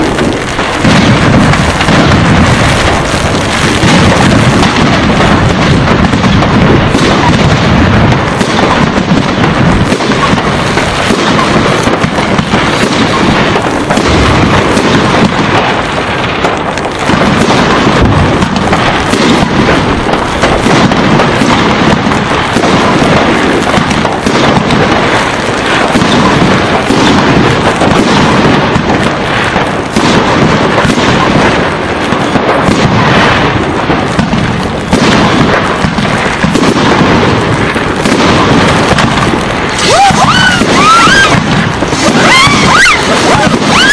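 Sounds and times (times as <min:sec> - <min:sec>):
fireworks bursting: 0:00.0 - 0:43.9
fireworks crackling: 0:00.0 - 0:43.9.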